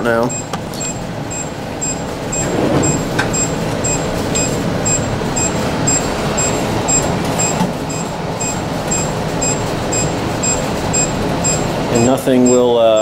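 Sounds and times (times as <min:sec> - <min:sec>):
fans rushing: 0:00.0 - 0:13.0
high-pitched alarm beeps: 0:00.3 - 0:13.0.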